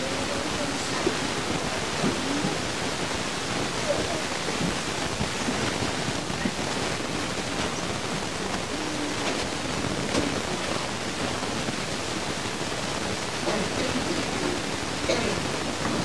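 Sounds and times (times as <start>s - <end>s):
camcorder recording hiss: 0.0s - 16.0s
faint voices: 0.0s - 16.0s.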